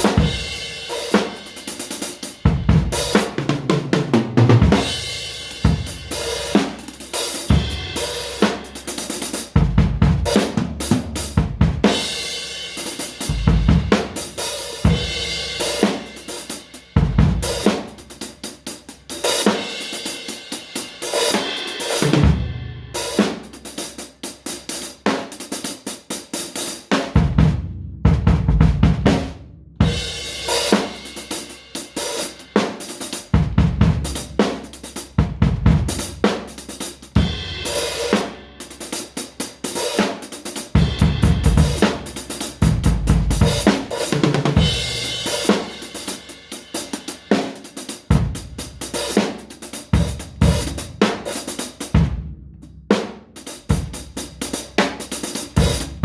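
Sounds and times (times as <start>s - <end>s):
drum kit played loosely: 0.0s - 56.0s.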